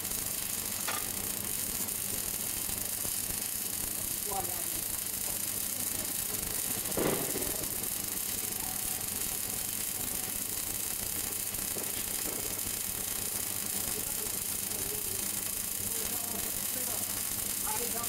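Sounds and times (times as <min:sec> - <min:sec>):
welding arc hiss and sizzle: 0:00.0 - 0:18.0.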